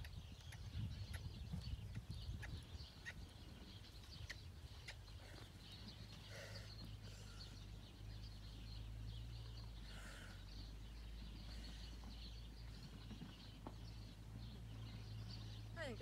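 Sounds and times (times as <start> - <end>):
birds chirping: 0.0 - 16.0
faint hoofbeats on sand: 0.0 - 16.0.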